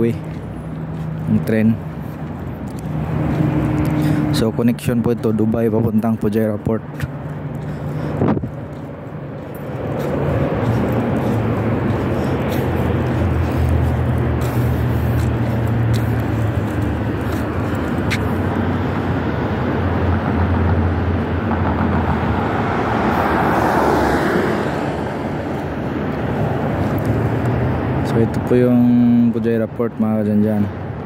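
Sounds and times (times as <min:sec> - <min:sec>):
vehicle passing: 0:00.0 - 0:29.3
road traffic noise: 0:00.0 - 0:31.0.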